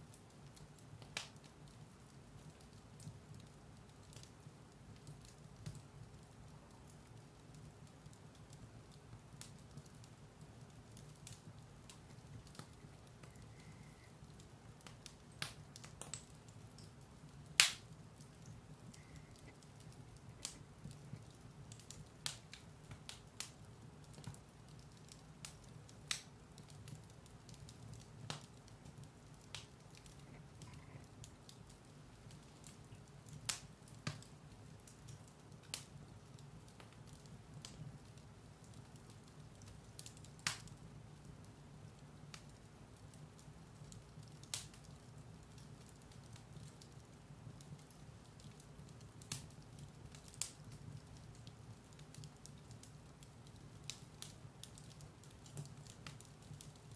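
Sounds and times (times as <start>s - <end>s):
firewood crackling and popping: 0.0s - 56.9s.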